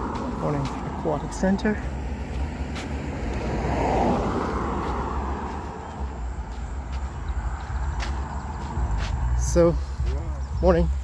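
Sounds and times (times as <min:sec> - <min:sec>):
road vehicle passing: 0:00.0 - 0:11.0
steady low rumble: 0:00.0 - 0:11.0.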